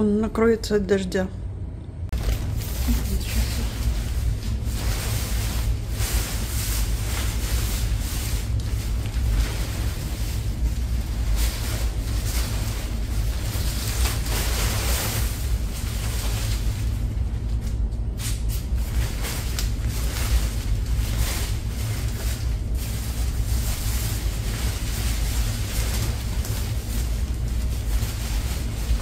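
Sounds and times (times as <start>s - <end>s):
steady low rumble: 0.0s - 29.0s
fabric cover rustling: 2.1s - 29.0s.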